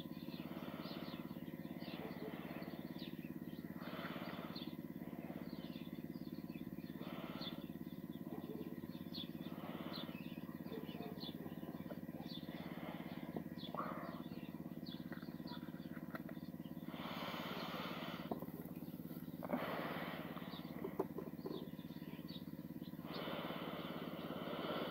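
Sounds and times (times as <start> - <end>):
faint bird chirps: 0.0 - 24.9
steady low hum: 0.0 - 24.9.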